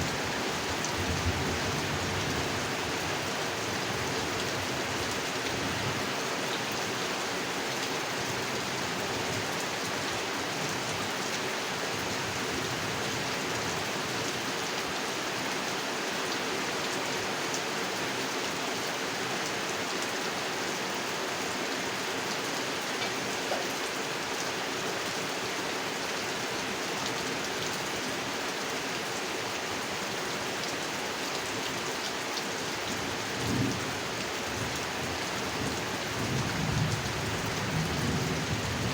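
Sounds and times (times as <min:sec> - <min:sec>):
rain falling on a pond: 0:00.0 - 0:38.9.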